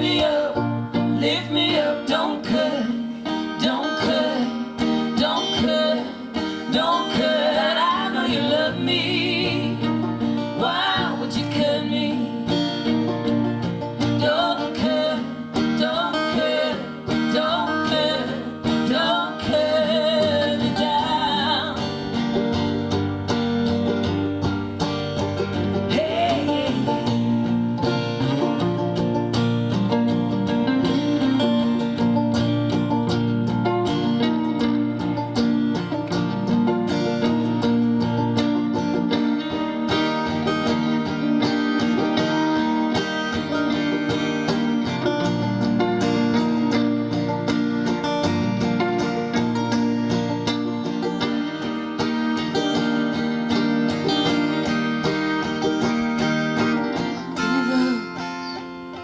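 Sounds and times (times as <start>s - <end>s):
band playing with acoustic guitar: 0.0s - 59.0s.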